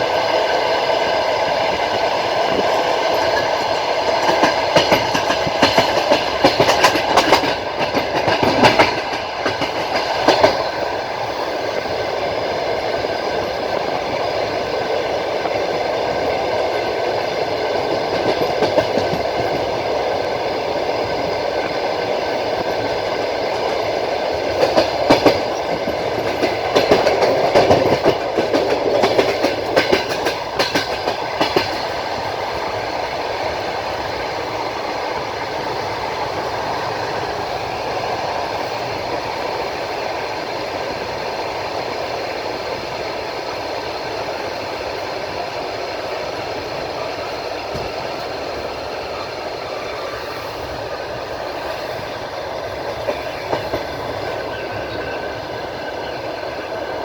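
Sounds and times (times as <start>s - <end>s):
train rolling rumble: 0.0s - 57.0s
train wheels clicking over rail joints: 0.0s - 57.0s.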